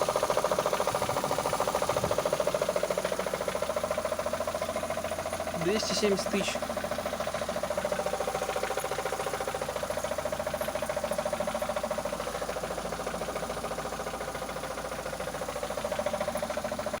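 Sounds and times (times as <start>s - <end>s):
car engine knocking: 0.0s - 17.0s.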